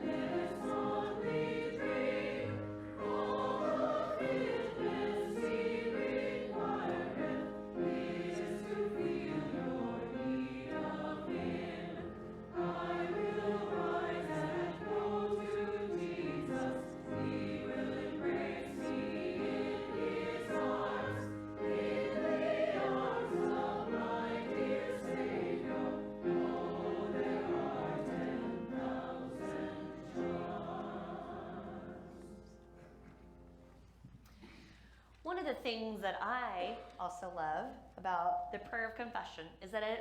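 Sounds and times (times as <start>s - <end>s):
group singing a hymn: 0.0s - 32.9s.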